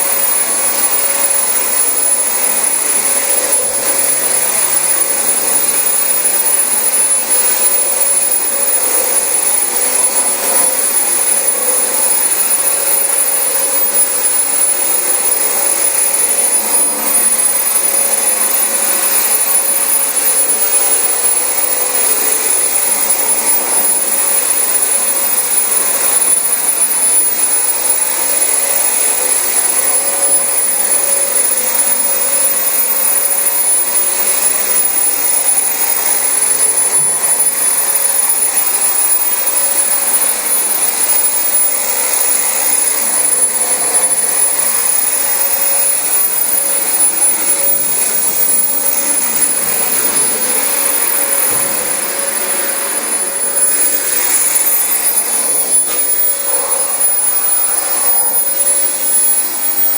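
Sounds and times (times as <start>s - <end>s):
vacuum cleaner on carpet: 0.0s - 59.9s.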